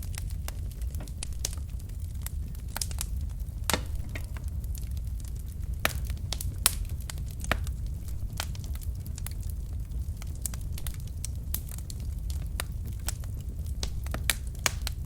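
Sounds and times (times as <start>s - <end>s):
flames rumbling: 0.0s - 15.0s
logs crackling and popping: 0.0s - 15.0s.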